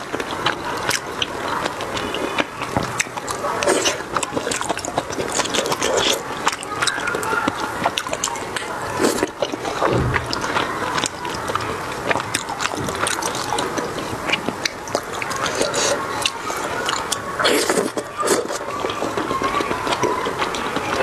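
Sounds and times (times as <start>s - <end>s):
chewing and slurping noodles: 0.0s - 21.0s.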